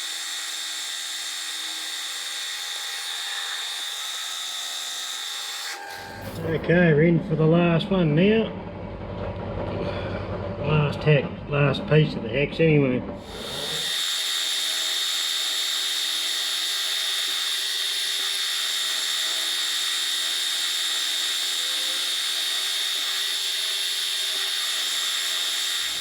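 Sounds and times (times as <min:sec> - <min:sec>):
milling cutter whining on metal: 0:00.0 - 0:10.7, 0:13.2 - 0:26.0.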